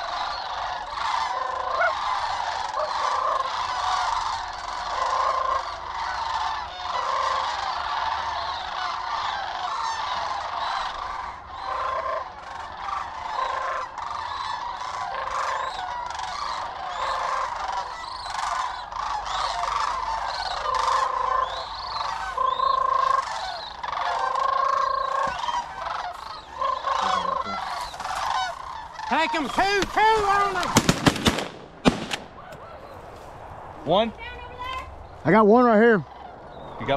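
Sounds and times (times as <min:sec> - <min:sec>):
cranes calling: 0:00.0 - 0:36.9.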